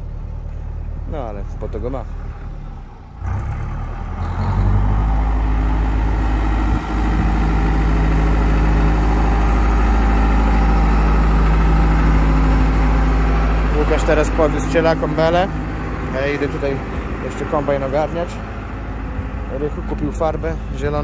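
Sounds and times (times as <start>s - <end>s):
tractor diesel engine: 0.0s - 21.0s.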